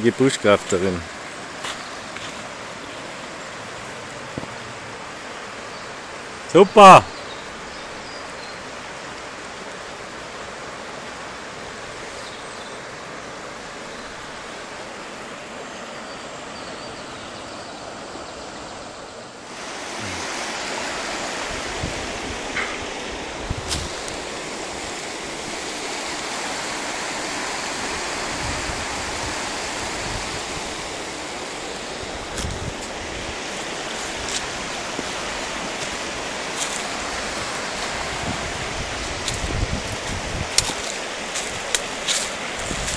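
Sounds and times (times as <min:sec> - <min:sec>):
river rushing over stones: 0:00.0 - 0:17.3, 0:17.9 - 0:42.9.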